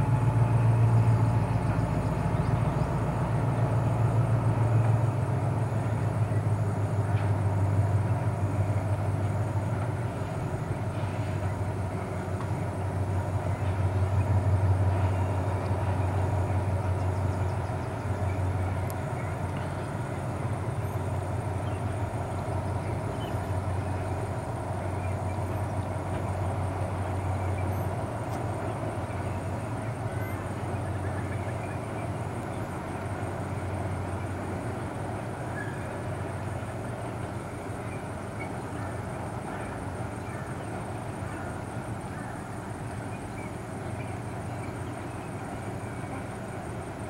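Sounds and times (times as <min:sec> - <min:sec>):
diesel train rumbling: 0:00.0 - 0:47.0.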